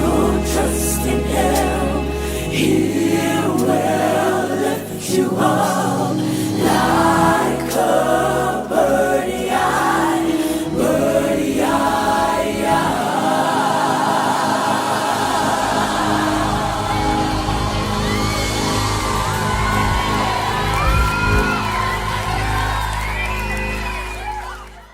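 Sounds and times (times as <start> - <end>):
choir singing gospel: 0.0 - 24.3.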